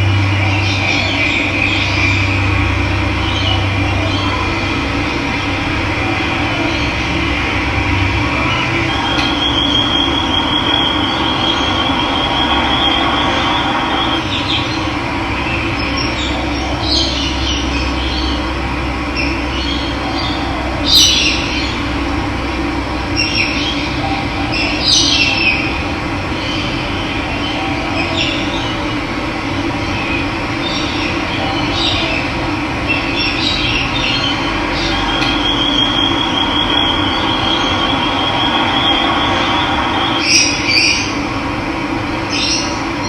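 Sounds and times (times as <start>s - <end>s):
birds trilling and chirping: 0.0s - 43.0s.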